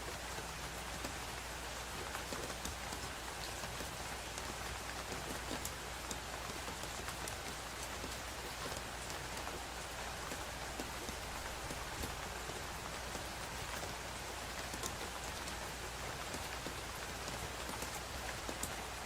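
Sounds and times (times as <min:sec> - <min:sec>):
steady rainfall: 0:00.0 - 0:19.0.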